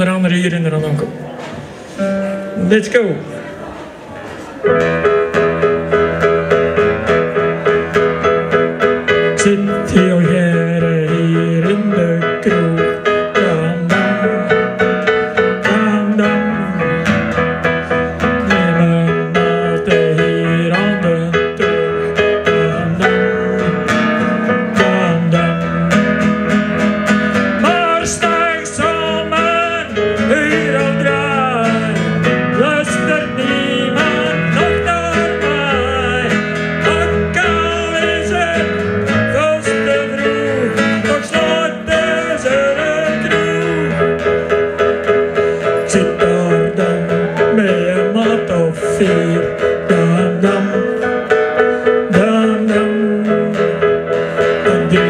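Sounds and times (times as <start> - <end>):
acoustic guitar: 0.0 - 55.0
keyboard playing: 0.0 - 55.0
man singing into a microphone: 6.4 - 55.0.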